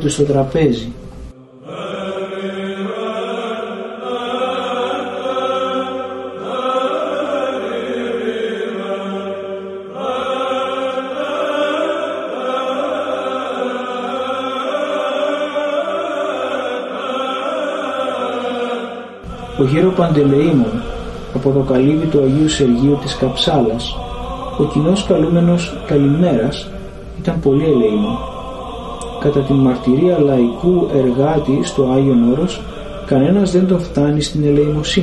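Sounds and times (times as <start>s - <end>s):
liturgical chanting: 0.0s - 35.0s
held drone note: 1.0s - 35.0s.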